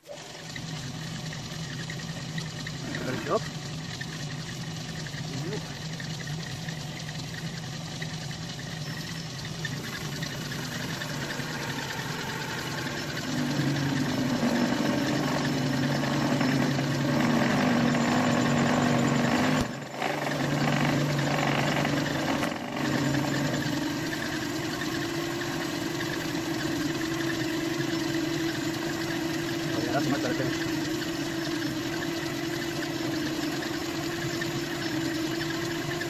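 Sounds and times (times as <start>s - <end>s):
lathe cutting noise: 0.0s - 36.0s
lathe machine hum: 0.0s - 36.0s.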